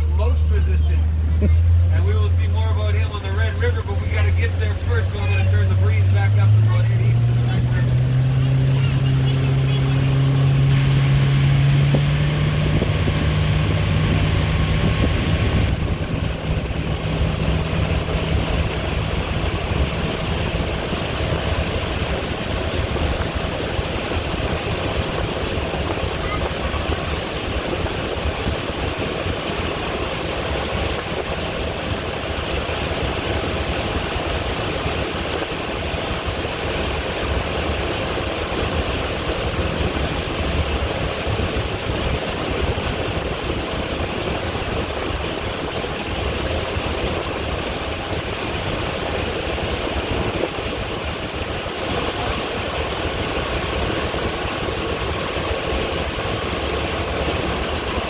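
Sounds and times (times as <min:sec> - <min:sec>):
boat motor running: 0:00.0 - 0:58.0
water noise: 0:00.0 - 0:58.0
wind buffeting microphone: 0:06.9 - 0:58.0.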